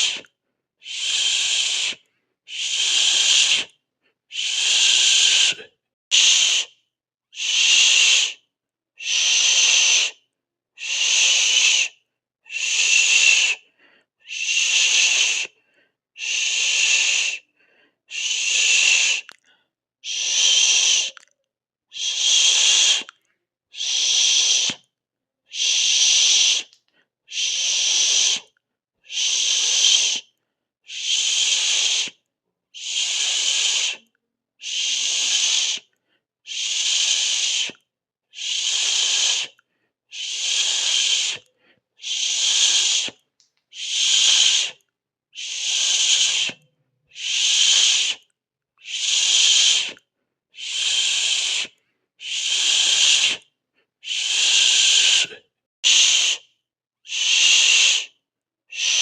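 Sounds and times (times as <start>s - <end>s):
person hissing shhh: 0.0s - 6.8s, 7.4s - 8.4s, 9.0s - 10.2s, 10.8s - 11.9s, 12.5s - 21.2s, 21.9s - 24.8s, 25.5s - 30.3s, 30.9s - 32.2s, 32.8s - 44.8s, 45.4s - 56.5s, 57.1s - 59.0s.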